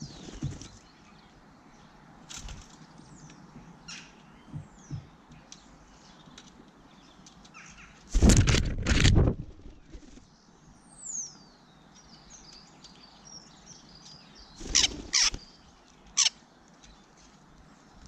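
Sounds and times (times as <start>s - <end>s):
small birds chirping and twittering: 0.0s - 8.3s, 9.6s - 18.0s.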